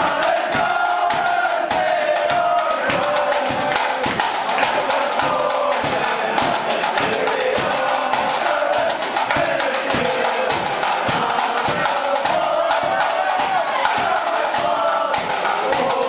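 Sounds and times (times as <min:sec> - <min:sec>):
bass drum: 0:00.0 - 0:16.0
fast dense drumming: 0:00.0 - 0:16.0.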